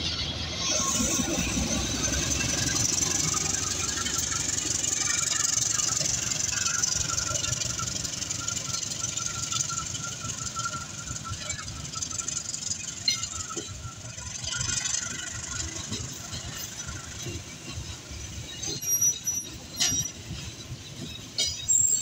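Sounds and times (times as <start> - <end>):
high wheel squeals: 0.0 - 22.0
train wheels rumbling on track: 0.0 - 22.0.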